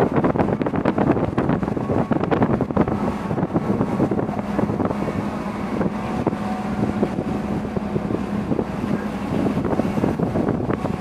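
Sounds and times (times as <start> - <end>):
sea water rushing along hull: 0.0 - 11.0
ship low hum: 0.0 - 11.0
wind buffeting microphone: 0.0 - 11.0.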